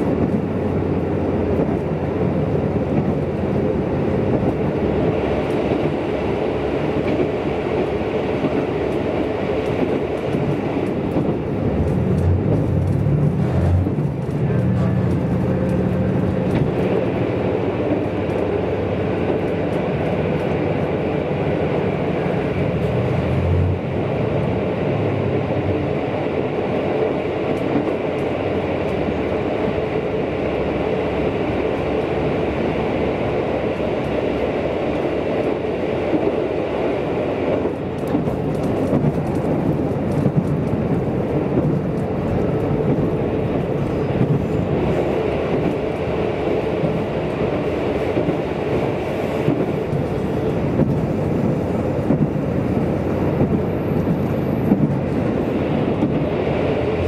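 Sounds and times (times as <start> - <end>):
train rumbling in tunnel: 0.0 - 57.0.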